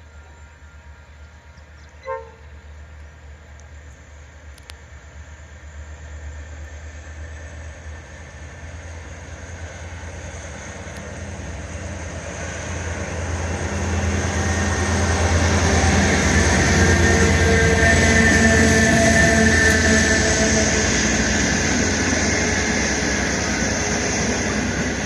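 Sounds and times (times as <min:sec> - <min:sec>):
locomotive engines humming: 0:00.0 - 0:25.0.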